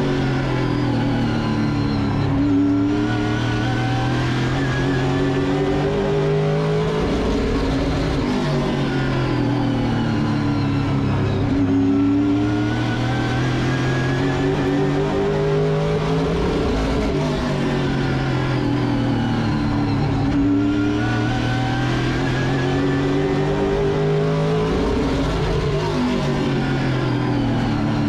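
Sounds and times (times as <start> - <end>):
race car engine at speed: 0.0 - 28.0.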